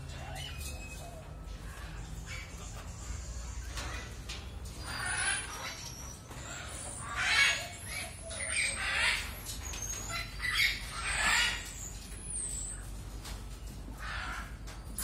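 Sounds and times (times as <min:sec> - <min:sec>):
parrots squawking: 0:00.0 - 0:12.8, 0:14.0 - 0:14.7.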